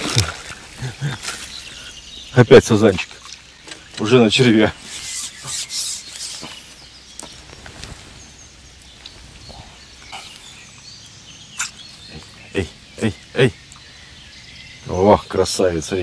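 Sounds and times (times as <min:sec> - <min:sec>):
faint bird chirps: 0:00.7 - 0:16.0.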